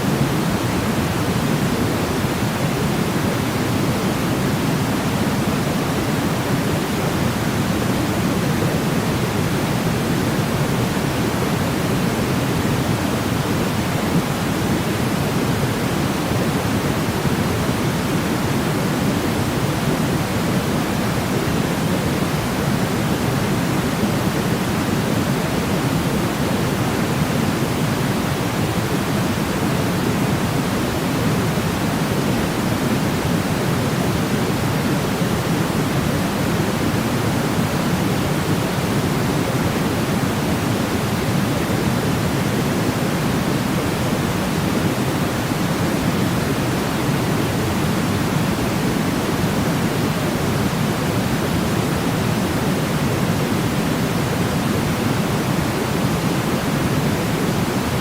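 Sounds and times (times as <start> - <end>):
low pink noise hiss: 0.0 - 58.0.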